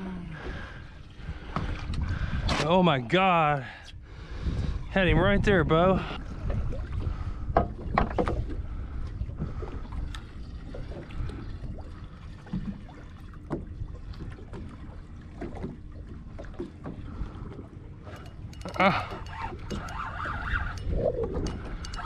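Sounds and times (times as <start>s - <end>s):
water sloshing against boat hull: 0.0s - 4.8s, 5.6s - 22.0s
wind rumbling on microphone: 0.0s - 22.0s.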